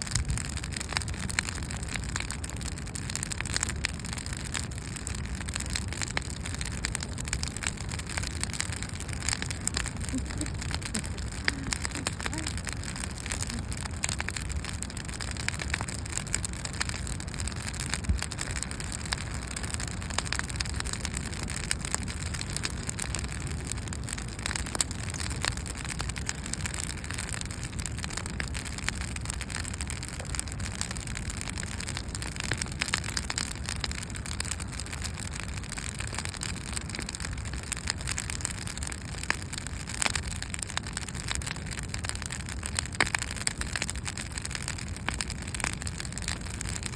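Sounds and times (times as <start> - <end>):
campfire crackling and popping: 0.0 - 46.9
low rumble of fire: 0.0 - 46.9.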